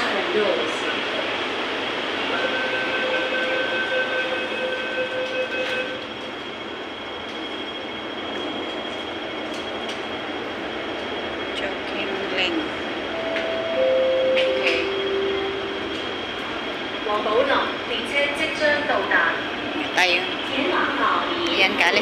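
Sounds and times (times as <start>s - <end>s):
high whine of train: 0.0s - 22.0s
subway train rushing: 0.0s - 22.0s.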